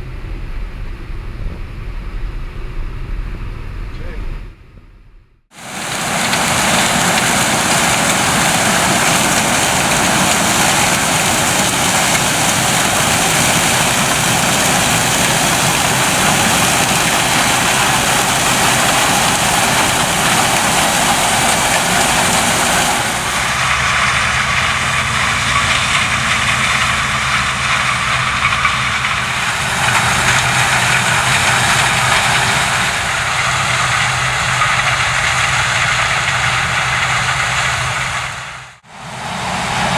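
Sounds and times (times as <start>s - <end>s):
combine harvester running: 5.5s - 39.9s.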